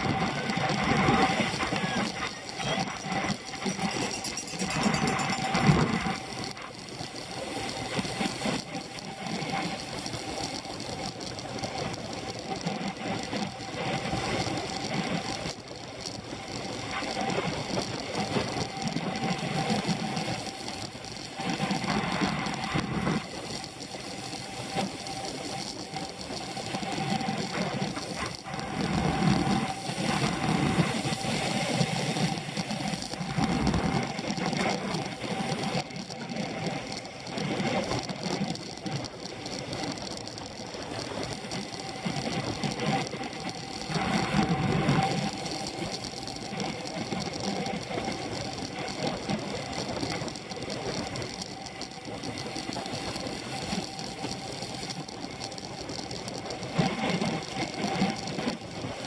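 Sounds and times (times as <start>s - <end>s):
wind rush: 0.0s - 15.4s, 16.2s - 55.3s
bicycle chain and tyres whirring: 0.0s - 59.0s.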